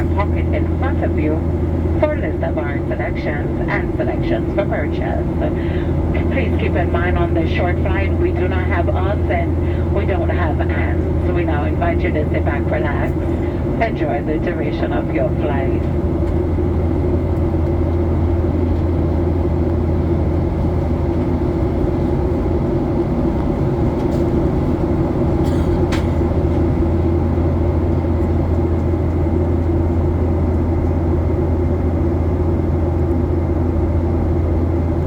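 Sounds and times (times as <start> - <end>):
airplane cabin drone: 0.0 - 35.0.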